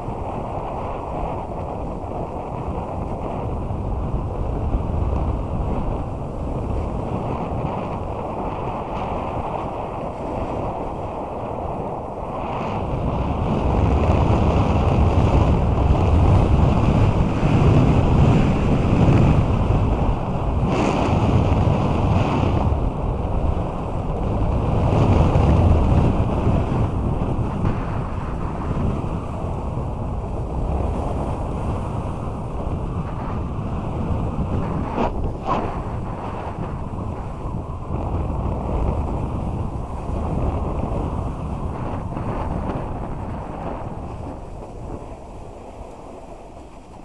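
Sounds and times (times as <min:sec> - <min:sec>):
snowboard scraping over snow: 0:00.0 - 0:47.0
wind rushing over microphone: 0:00.0 - 0:47.0.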